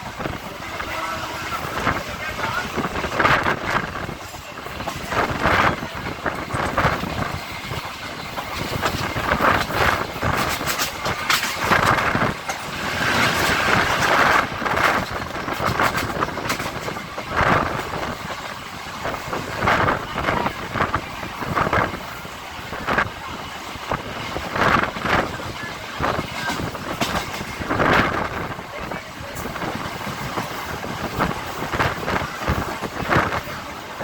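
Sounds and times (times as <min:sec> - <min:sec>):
train coaches rumbling: 0:00.0 - 0:34.0
wheels clattering over rail joints: 0:00.0 - 0:34.0.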